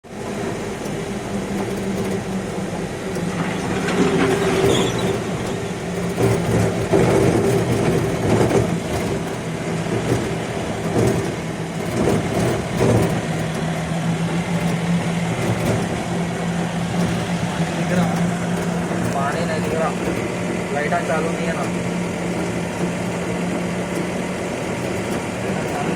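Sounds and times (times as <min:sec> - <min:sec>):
low engine hum: 0:00.0 - 0:25.9.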